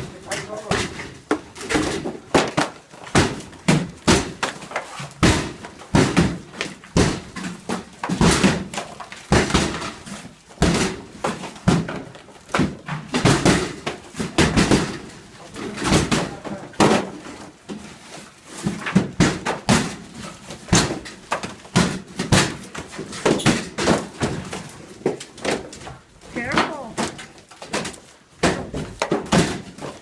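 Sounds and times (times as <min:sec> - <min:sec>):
heavy demolition thuds and bangs: 0:00.0 - 0:04.5, 0:05.1 - 0:17.3, 0:18.6 - 0:24.8, 0:26.4 - 0:30.0.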